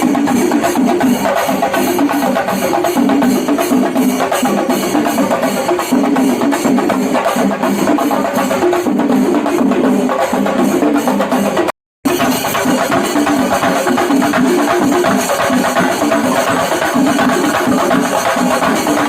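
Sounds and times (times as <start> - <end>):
drum ensemble playing fast: 0.0 - 19.0.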